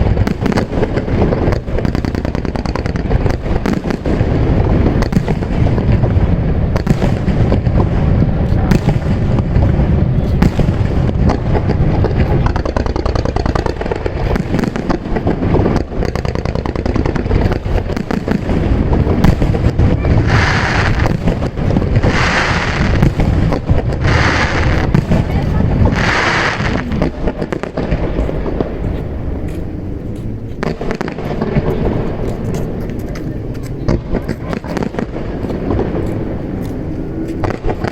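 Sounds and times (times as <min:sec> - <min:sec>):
fireworks crackling: 0:00.0 - 0:37.9
fireworks shells booming: 0:00.0 - 0:37.9
hissing crackles: 0:00.0 - 0:37.9.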